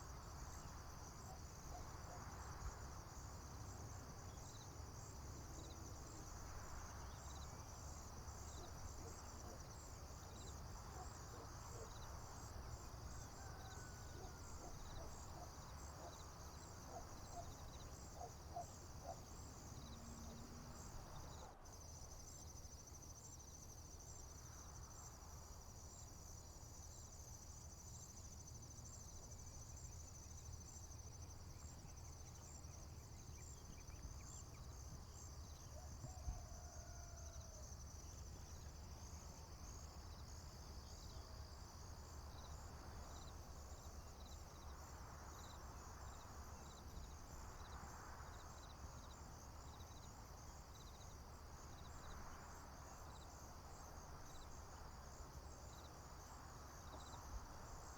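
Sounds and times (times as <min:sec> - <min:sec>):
crickets and insects trilling: 0:00.0 - 0:57.9.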